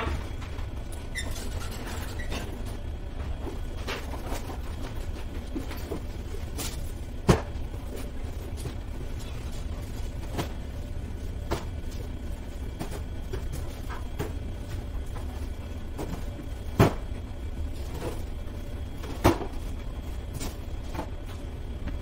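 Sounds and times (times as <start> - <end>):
steady low rumble: 2.4 - 22.0.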